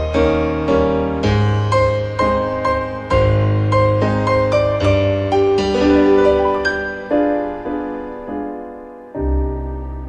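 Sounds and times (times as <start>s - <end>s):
piano background music: 0.0s - 10.0s.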